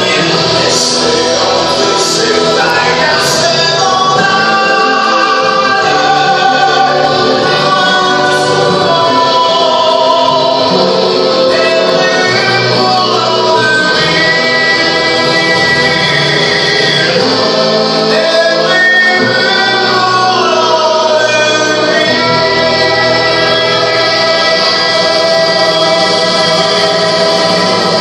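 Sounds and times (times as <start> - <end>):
choir singing long held notes: 0.0 - 28.0
musical accompaniment: 0.0 - 28.0.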